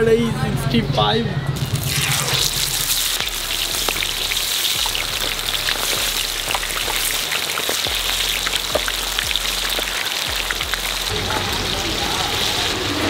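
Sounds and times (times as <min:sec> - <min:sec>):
meat deep-frying in oil: 0:01.6 - 0:13.0.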